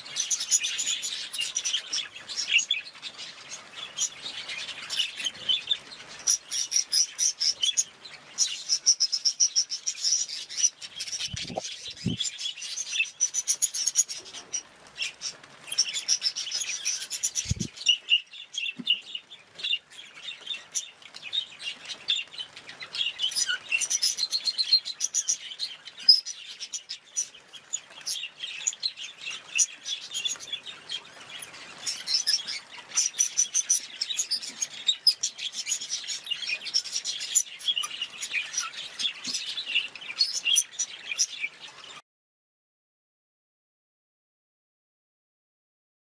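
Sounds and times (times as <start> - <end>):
budgerigars chirping and chattering: 0.0 - 42.0.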